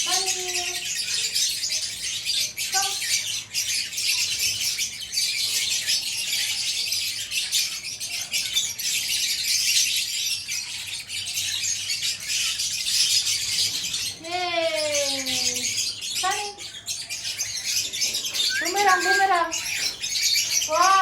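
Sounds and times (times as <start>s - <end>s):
flock of parrots chattering: 0.0s - 21.0s.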